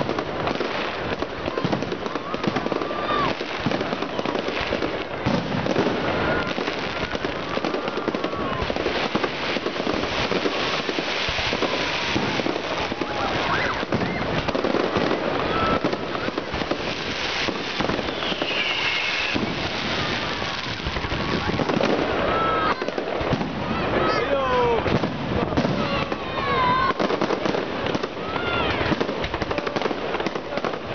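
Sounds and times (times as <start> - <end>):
fireworks crackling and banging: 0.0 - 30.9
fireworks whistling: 0.0 - 30.9.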